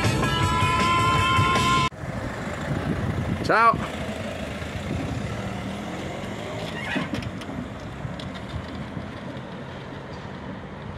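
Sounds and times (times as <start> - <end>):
car engine and tyre rumble: 0.0 - 10.9.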